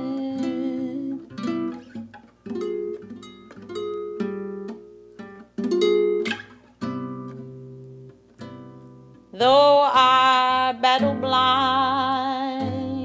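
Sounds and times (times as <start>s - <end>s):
acoustic guitar plucked notes: 0.0s - 13.0s.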